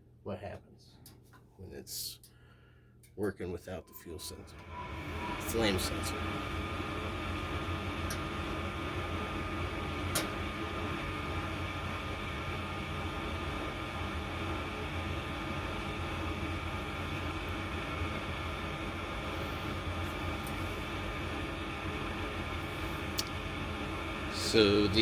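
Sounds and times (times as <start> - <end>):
gas furnace motor hum: 0.0 - 25.0.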